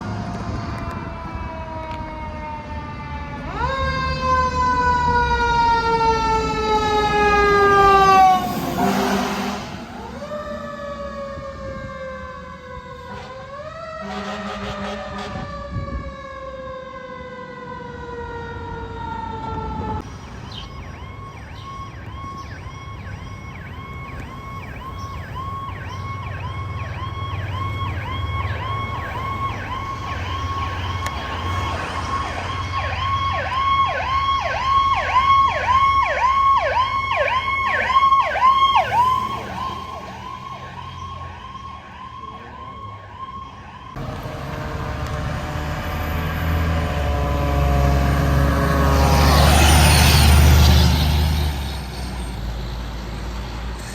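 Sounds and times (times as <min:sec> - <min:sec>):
truck engine drone: 0:00.0 - 0:13.4, 0:17.1 - 0:53.9
fire engine siren: 0:00.0 - 0:53.9.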